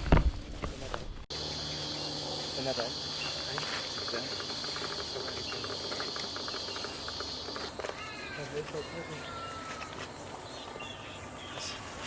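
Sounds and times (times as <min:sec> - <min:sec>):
high-pitched insect chorus: 0:01.3 - 0:12.0.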